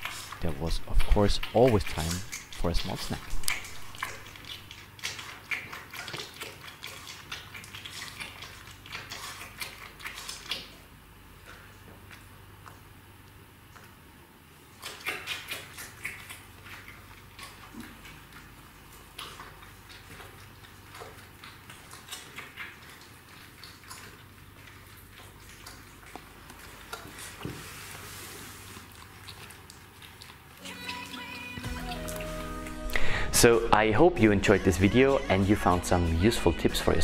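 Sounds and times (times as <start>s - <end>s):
puppy suckling wet smacking: 0.0s - 32.3s.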